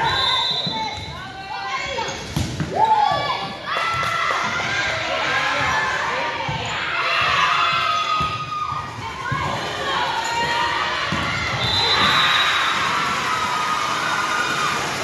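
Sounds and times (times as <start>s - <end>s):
cheering: 2.7s - 15.0s.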